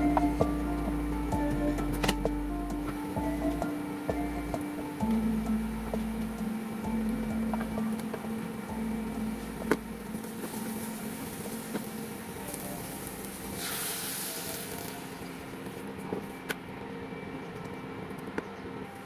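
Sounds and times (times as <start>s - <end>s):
hissing sizzle: 0.0s - 16.0s
induction cooktop hum: 0.0s - 16.2s.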